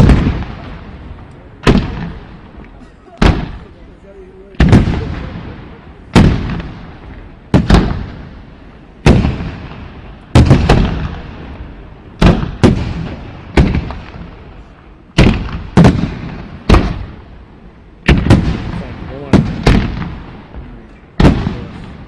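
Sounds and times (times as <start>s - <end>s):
fireworks booming: 0.0s - 22.0s.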